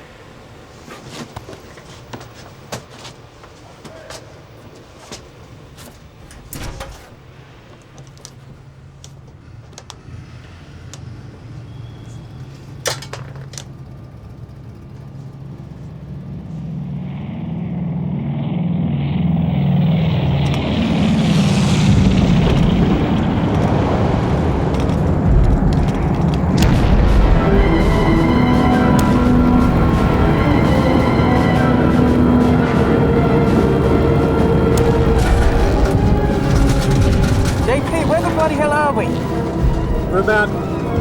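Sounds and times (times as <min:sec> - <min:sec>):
aircraft engines droning: 0:00.0 - 0:41.0.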